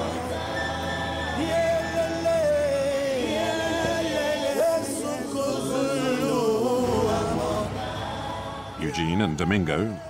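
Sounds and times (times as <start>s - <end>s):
music with sung voices: 0.0s - 10.0s.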